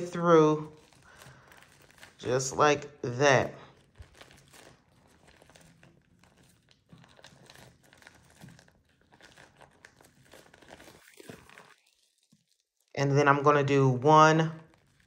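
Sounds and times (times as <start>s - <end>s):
plastic balloon crinkling: 0.0s - 15.0s.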